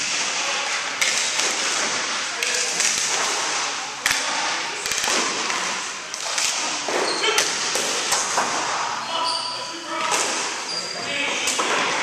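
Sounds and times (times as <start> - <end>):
echoing gym noise: 0.0 - 12.0
hockey sticks clacking: 0.0 - 12.0.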